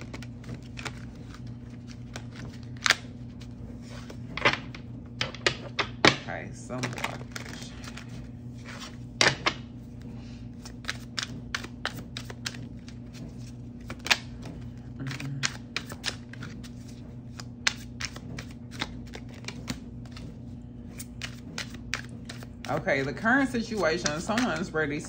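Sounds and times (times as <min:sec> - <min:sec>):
cards shuffling and snapping: 0:00.0 - 0:06.2, 0:06.8 - 0:09.6, 0:10.5 - 0:25.0
steady low hum: 0:00.0 - 0:25.0.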